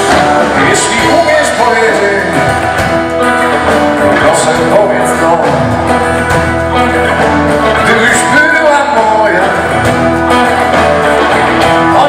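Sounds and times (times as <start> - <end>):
electric guitar: 0.0 - 12.0
live blues band: 0.0 - 12.0.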